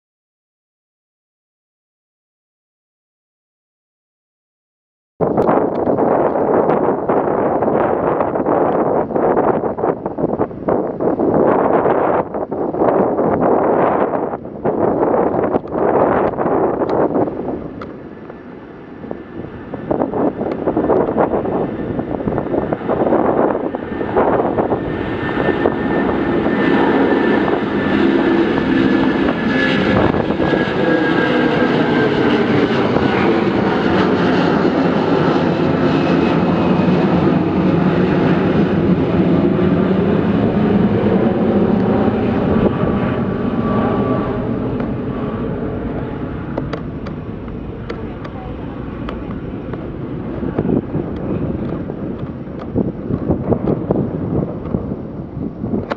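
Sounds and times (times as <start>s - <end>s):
jet airliner taking off: 5.2s - 55.9s.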